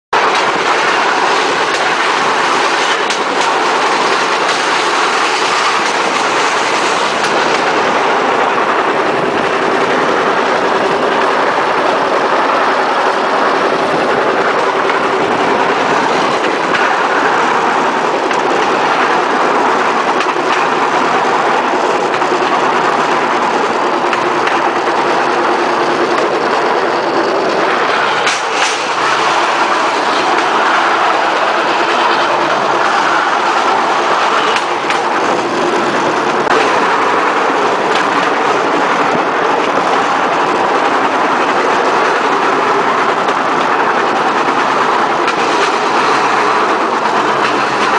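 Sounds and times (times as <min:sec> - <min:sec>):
clacks over rail joints: 0:00.2 - 0:47.9
wheels rattling on rails: 0:00.2 - 0:47.9.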